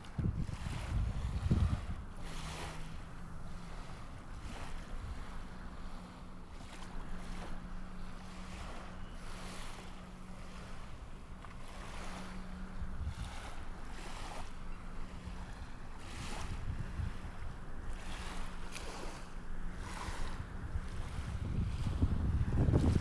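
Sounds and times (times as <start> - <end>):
rushing wind and water: 0.0 - 23.0
steady low hum: 0.0 - 23.0.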